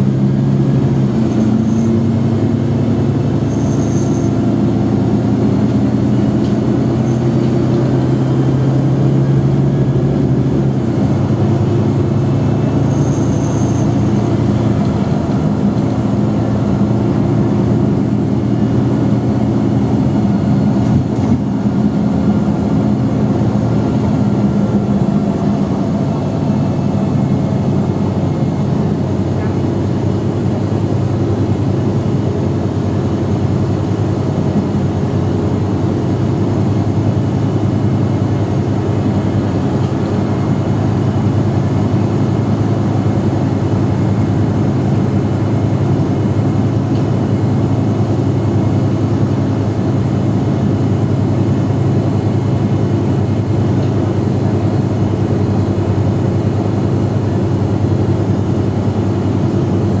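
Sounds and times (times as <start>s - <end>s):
bus diesel engine idling: 0.0s - 60.0s.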